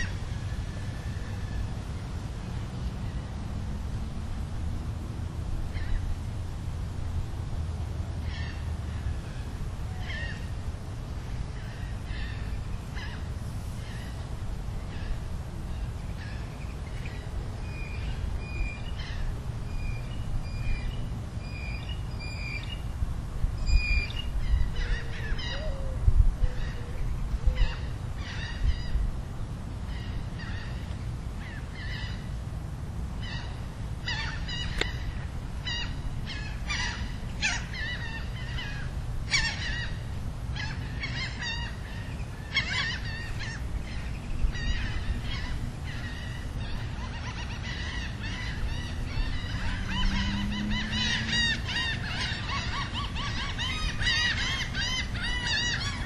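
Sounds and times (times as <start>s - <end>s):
wild birds calling: 0.0s - 3.5s, 5.7s - 6.3s, 8.1s - 23.0s, 23.6s - 29.1s, 29.8s - 32.4s, 33.1s - 56.0s.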